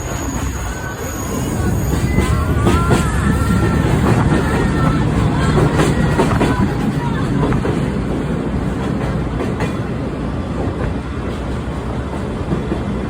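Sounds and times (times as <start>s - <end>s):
train rolling rumble: 0.0s - 13.0s
wheels clacking on rails: 0.0s - 13.0s.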